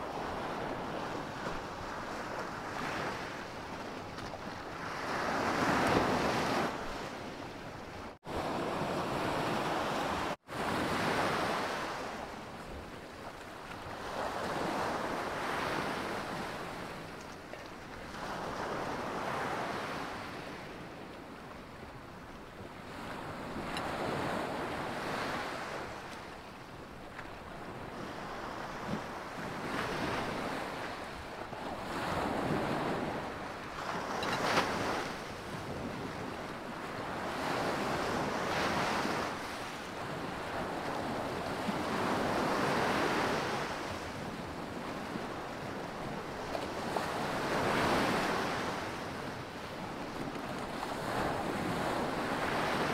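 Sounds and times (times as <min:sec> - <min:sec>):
wind on microphone: 0:00.0 - 0:52.9.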